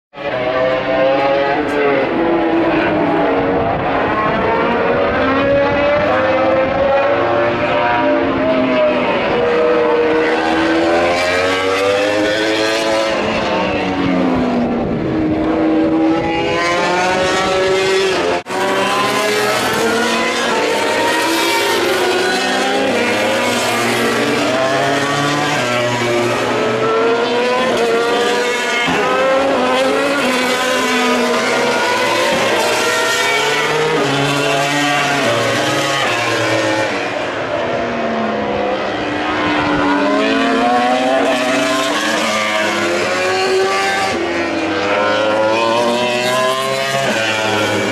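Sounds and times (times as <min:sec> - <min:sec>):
racing motorcycle engines revving: 0:00.2 - 0:47.9.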